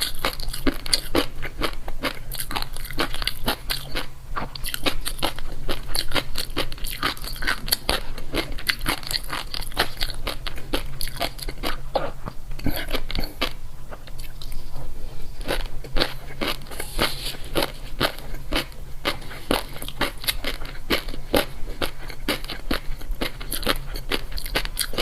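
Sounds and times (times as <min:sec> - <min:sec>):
person chewing crunchy food: 0:00.0 - 0:25.0
steady low hum: 0:00.0 - 0:25.0.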